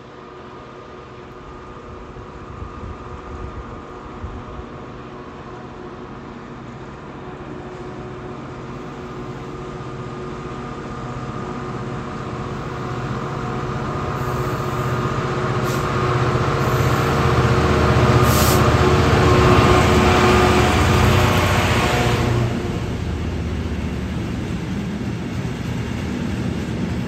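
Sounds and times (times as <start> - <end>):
diesel locomotive engine: 0.0 - 27.0
train wheels rumbling on track: 0.0 - 27.0.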